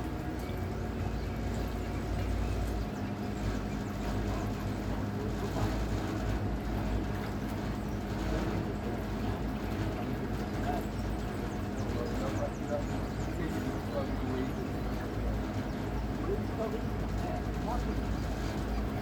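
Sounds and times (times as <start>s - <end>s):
boat electric motor humming: 0.0s - 19.0s.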